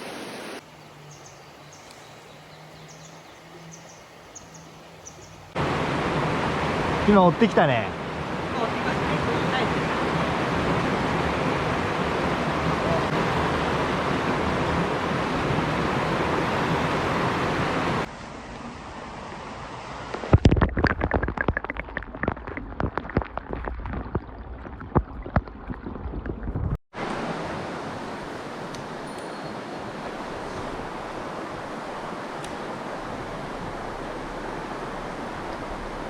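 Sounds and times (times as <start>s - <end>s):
stream water rushing: 0.0s - 25.3s, 27.0s - 36.0s.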